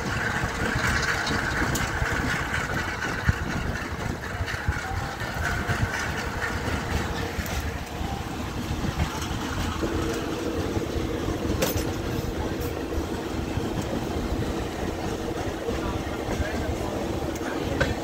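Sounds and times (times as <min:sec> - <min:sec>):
wind noise: 0:00.0 - 0:15.2
train wheels rumbling on rails: 0:00.0 - 0:18.0.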